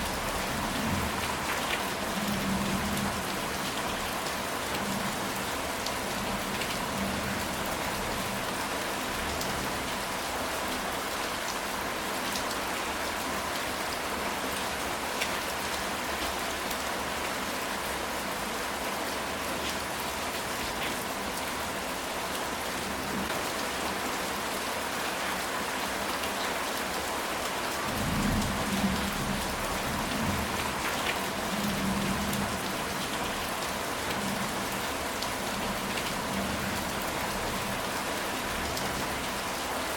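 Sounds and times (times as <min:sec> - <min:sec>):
rain pattering on a tile roof: 0:00.0 - 0:39.9.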